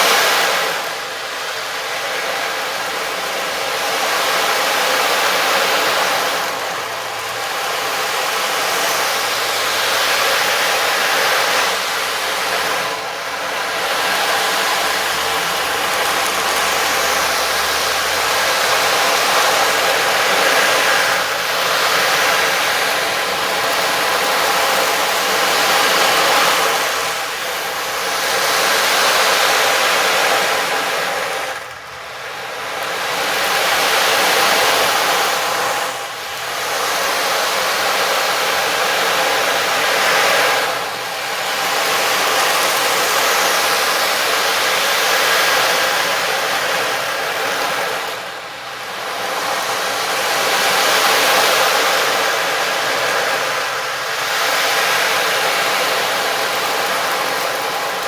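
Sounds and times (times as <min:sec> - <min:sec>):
steady rushing wash: 0:00.0 - 0:58.0.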